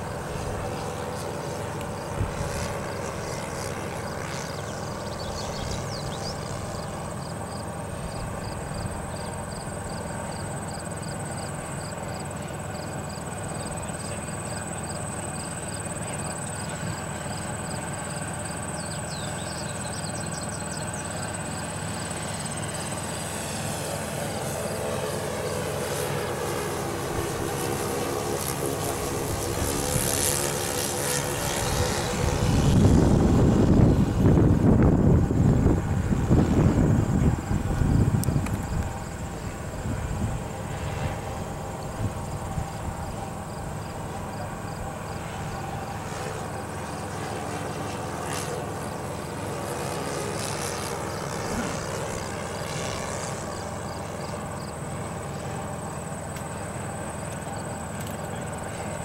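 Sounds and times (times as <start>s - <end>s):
propeller airplane droning overhead: 0.0s - 59.0s.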